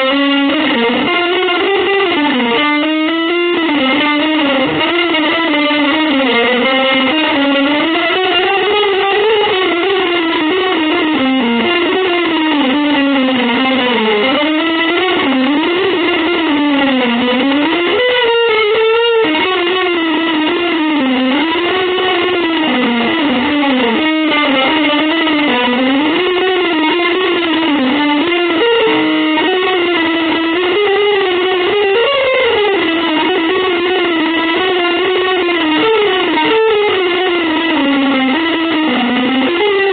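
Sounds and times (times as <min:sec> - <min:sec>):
electric guitar gliding melody: 0:00.0 - 0:39.9.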